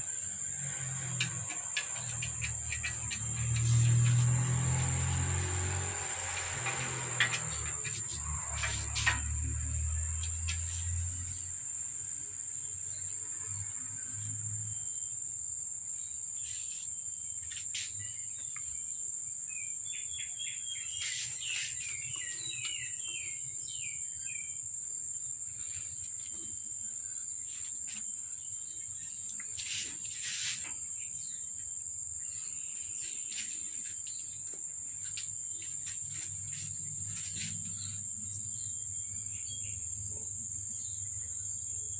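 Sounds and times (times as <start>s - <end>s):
bird chirping: 0.0s - 11.5s, 16.0s - 24.7s, 25.6s - 41.9s
insects trilling: 0.0s - 41.9s.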